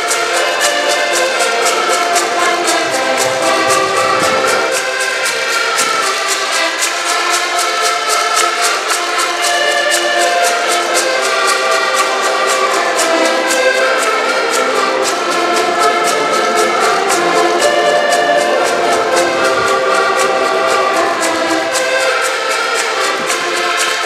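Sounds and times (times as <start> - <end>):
button accordions playing folk tune: 0.0 - 24.0.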